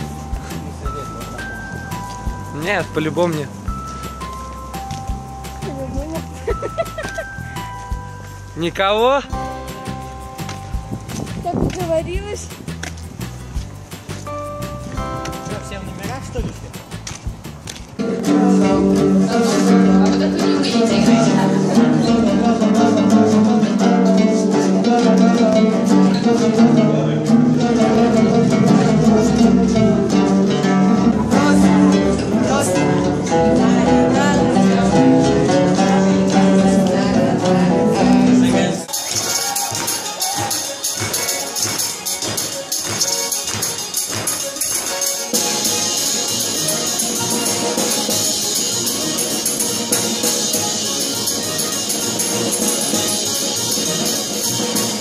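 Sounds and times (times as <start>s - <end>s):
plucked lute ensemble playing: 0.0s - 55.0s.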